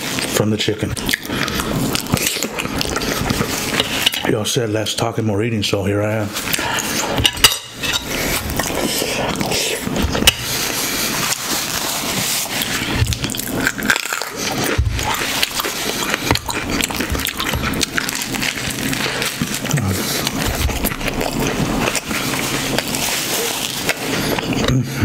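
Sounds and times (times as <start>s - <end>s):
chewing food: 0.0s - 4.3s, 6.4s - 24.8s.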